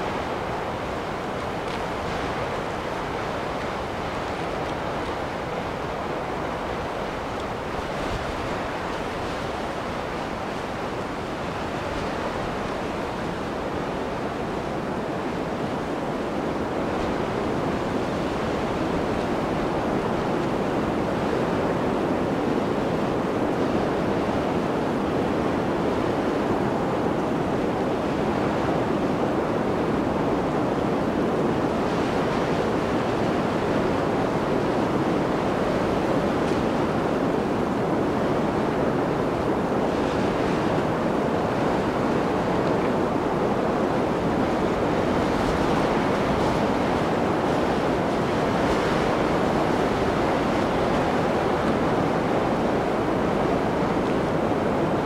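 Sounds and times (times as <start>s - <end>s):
blizzard wind blowing: 0.0s - 55.0s.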